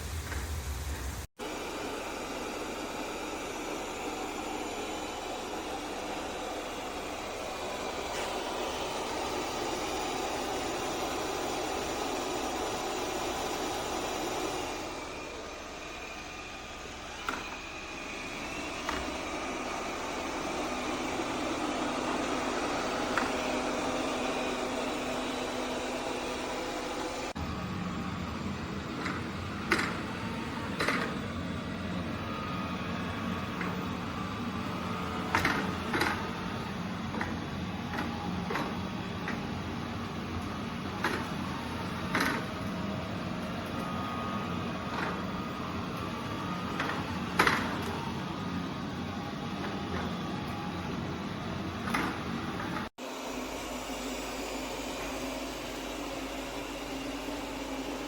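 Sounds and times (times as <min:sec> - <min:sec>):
robot vacuum running: 0:00.2 - 0:58.0
thin steady whir: 0:01.4 - 0:58.0.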